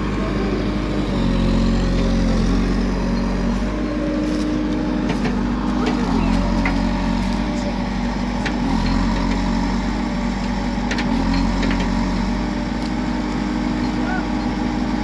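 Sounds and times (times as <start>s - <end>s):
construction machine diesel engine: 0.0s - 15.0s.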